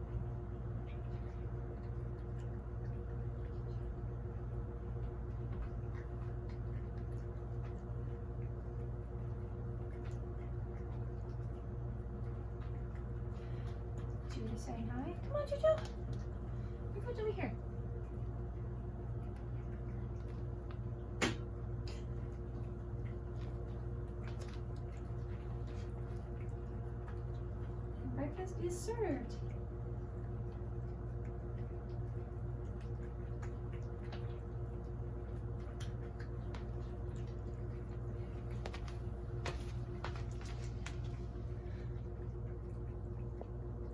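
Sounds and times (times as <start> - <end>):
cats chewing and licking: 0.0 - 43.9
steady low hum: 0.0 - 43.9.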